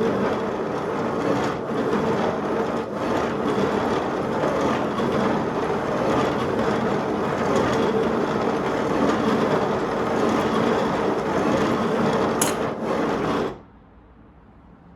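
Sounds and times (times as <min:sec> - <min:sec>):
mechanism clattering: 0:00.0 - 0:13.6.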